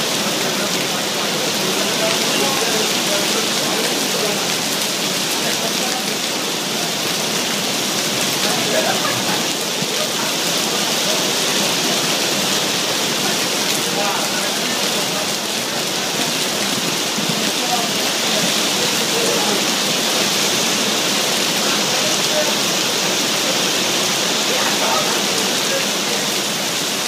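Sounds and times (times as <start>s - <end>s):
heavy rain on pavement and river: 0.0s - 27.0s.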